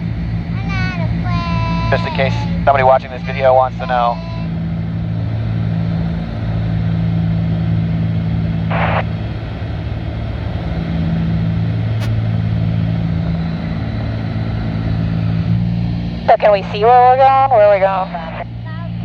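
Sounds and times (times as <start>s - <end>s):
aircraft propellers droning: 0.0s - 19.0s.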